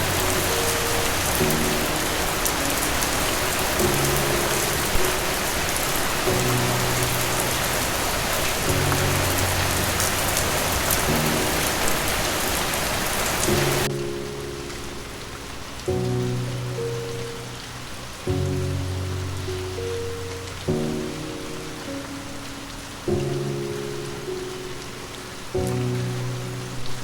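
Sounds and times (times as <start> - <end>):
soft background music: 0.0 - 27.0
steady rain falling: 0.0 - 27.0.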